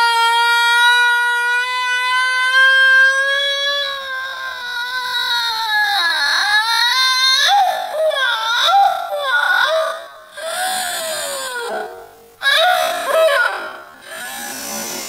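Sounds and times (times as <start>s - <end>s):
woman crying and sobbing: 0.3s - 14.9s.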